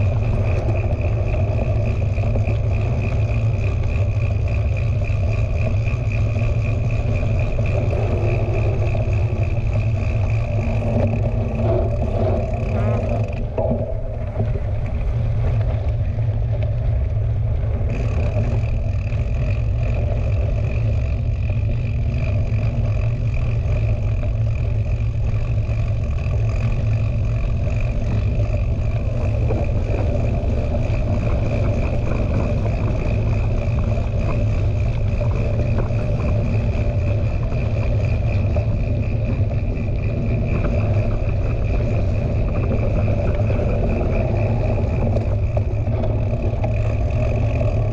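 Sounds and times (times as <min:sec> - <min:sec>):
steady high whine: 0:00.0 - 0:47.9
wind rumble on microphone: 0:00.0 - 0:47.9.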